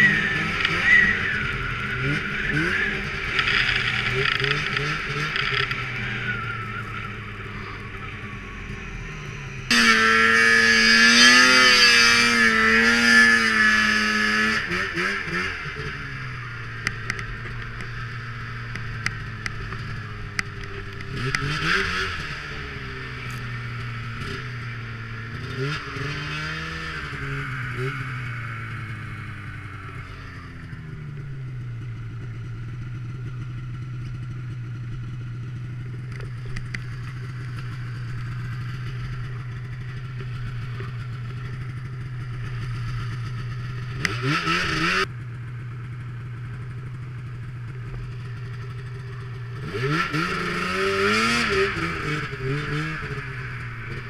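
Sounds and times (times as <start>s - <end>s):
snowmobile engine revving: 0.0s - 34.6s, 36.3s - 45.2s, 46.3s - 54.0s.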